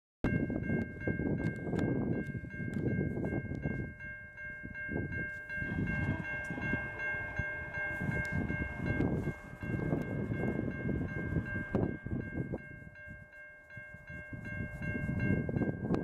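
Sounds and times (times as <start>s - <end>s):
wind buffeting microphone: 0.2s - 16.0s
level crossing warning bells ringing: 0.3s - 16.0s.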